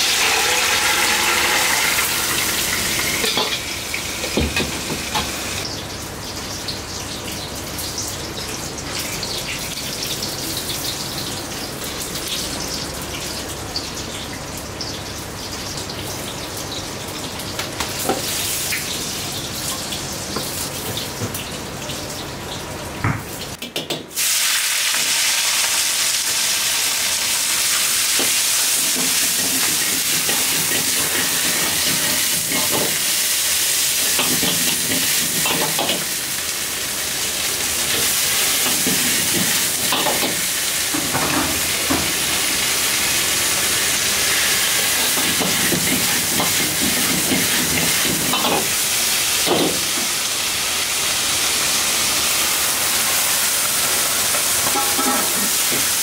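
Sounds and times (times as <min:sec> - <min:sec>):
vegetables sizzling in a wok: 0:00.0 - 0:56.0.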